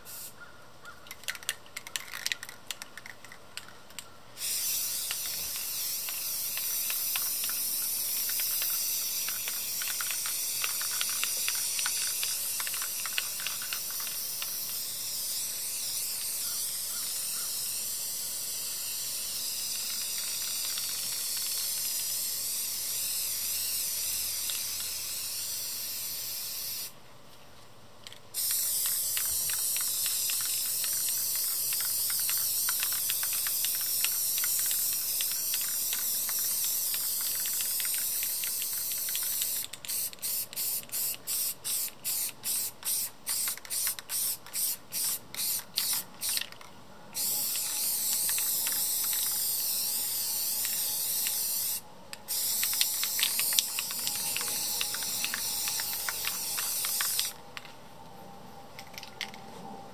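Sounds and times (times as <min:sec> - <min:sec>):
spray paint can hissing: 0:00.0 - 0:00.4, 0:01.1 - 0:03.7, 0:04.4 - 0:26.9, 0:28.1 - 0:57.4.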